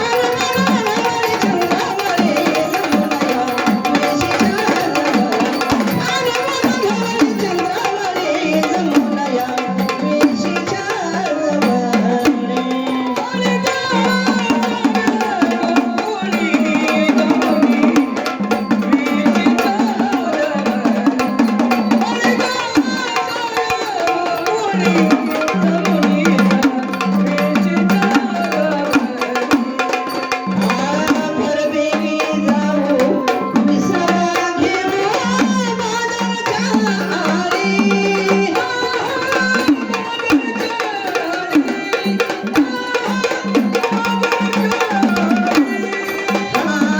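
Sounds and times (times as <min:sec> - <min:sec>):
fast drumming: 0:00.0 - 0:46.9
man singing lead vocal: 0:00.0 - 0:46.9.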